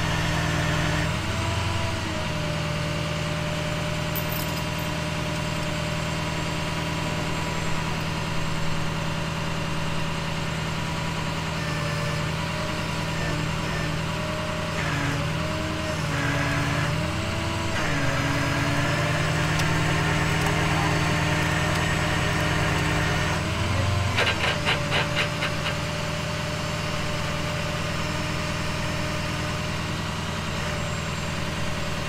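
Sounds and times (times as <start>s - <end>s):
tow truck engine running: 0.0s - 32.0s.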